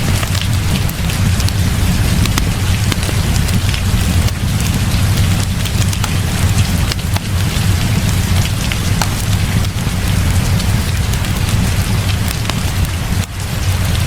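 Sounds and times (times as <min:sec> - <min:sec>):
heavy rain falling: 0:00.0 - 0:14.0
low rumble: 0:00.0 - 0:14.0
sharp crackles and pops: 0:00.0 - 0:14.0.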